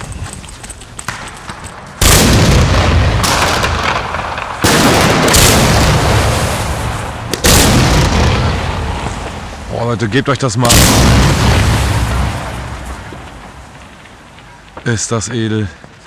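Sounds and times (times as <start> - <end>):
firework battery blasts: 0.0 - 15.0.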